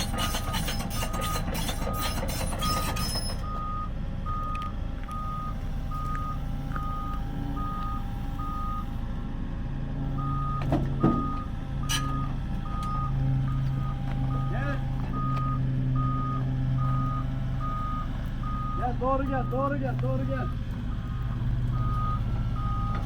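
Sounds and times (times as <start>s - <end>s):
diesel engine running: 0.0s - 23.0s
backup alarm beeping: 1.0s - 9.0s, 10.2s - 23.0s.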